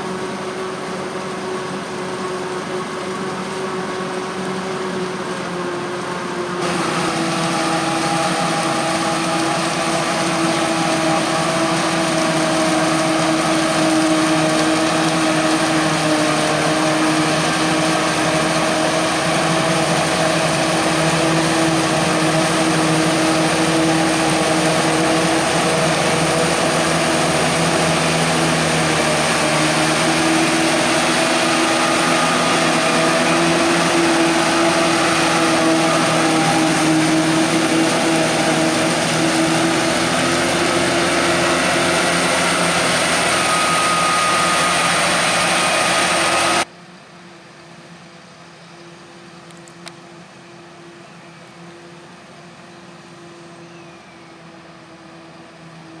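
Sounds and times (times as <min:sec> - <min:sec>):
diesel machinery engine drone: 0:00.0 - 0:46.7.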